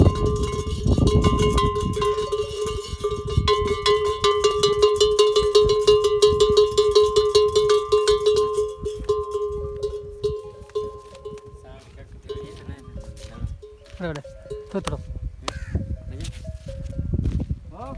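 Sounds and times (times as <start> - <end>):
bell clanking: 0.0 - 15.1.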